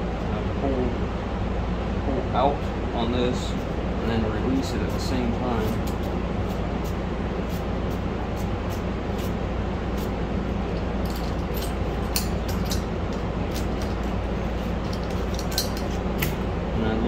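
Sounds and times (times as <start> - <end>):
steady fan hum: 0.0 - 17.0.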